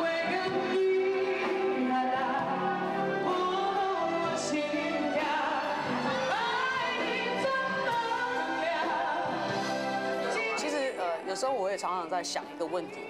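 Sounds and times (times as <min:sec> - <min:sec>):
woman singing into microphone: 0:00.0 - 0:11.4
band accompaniment: 0:00.0 - 0:13.0.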